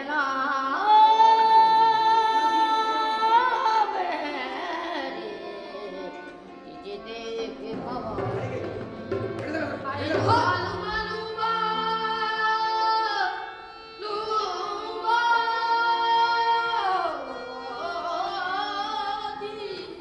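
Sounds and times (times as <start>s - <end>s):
classical-style singing voices: 0.0s - 20.0s.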